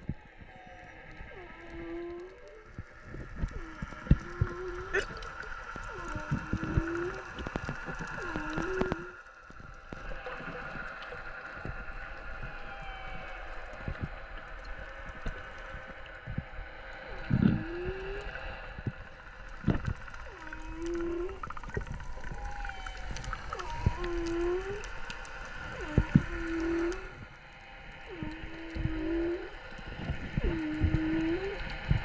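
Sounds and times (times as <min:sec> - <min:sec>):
low moaning calls: 0:00.0 - 0:32.0
underwater clicks crackling: 0:00.9 - 0:32.0.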